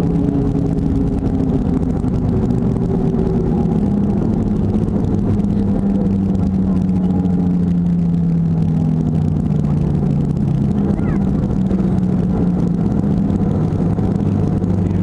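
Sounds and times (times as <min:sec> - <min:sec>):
airliner jet engines and airflow: 0:00.0 - 0:15.0.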